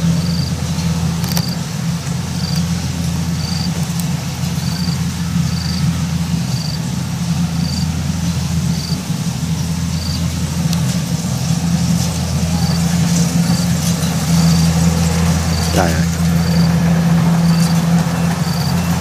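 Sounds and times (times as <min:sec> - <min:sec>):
combine harvester engine running: 0:00.0 - 0:19.0.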